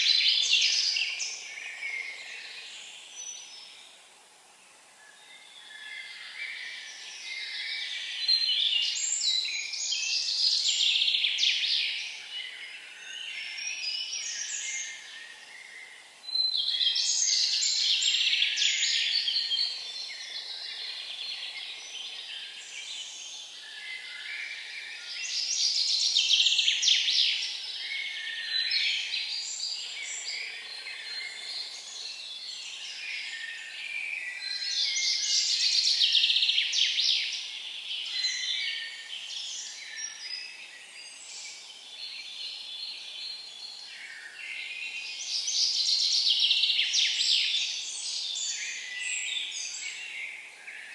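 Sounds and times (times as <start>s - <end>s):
songbird singing: 0.0s - 4.1s, 4.8s - 50.9s.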